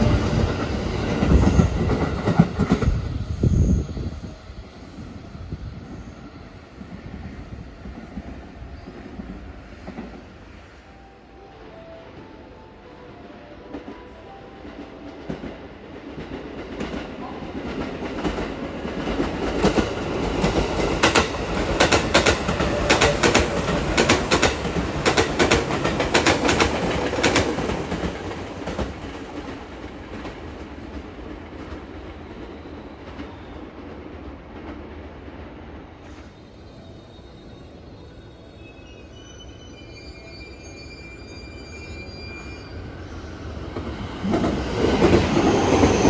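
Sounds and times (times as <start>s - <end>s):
electric train passing: 0.0s - 46.0s.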